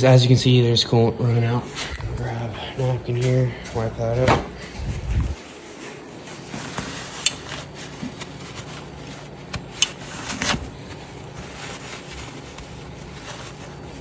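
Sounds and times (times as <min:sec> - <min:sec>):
paper towel rustling: 0:01.6 - 0:14.0.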